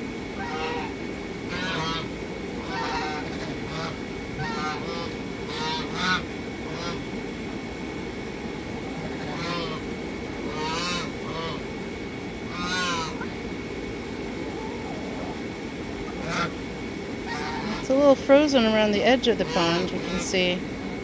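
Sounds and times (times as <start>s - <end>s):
geese honking: 0.4s - 7.3s, 7.9s - 20.8s.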